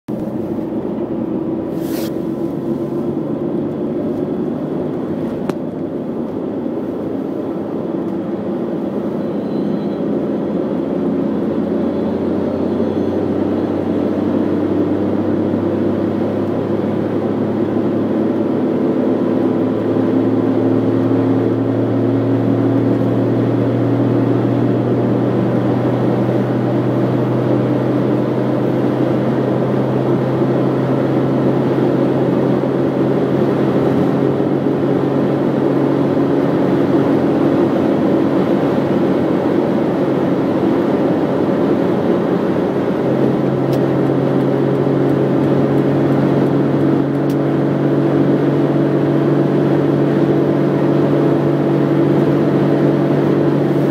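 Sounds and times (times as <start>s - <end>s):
car engine and tyre drone: 0.1s - 53.9s.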